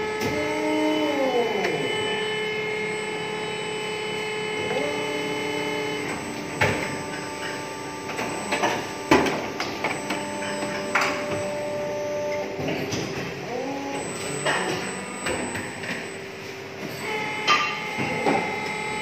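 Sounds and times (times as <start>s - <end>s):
hydraulic machine whine: 0.0s - 19.0s.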